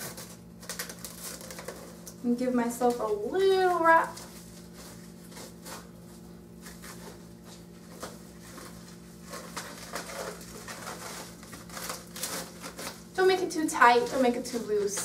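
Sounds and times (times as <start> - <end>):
plastic wrap crinkling: 0.0 - 15.0
steady low hum: 0.0 - 15.0.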